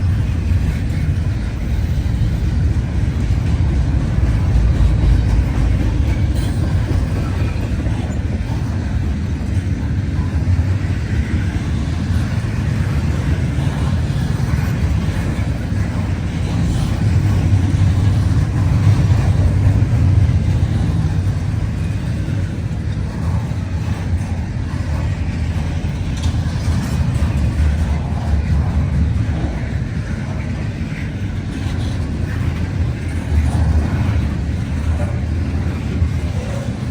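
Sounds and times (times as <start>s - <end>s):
freight train rumbling past: 0.0s - 36.9s.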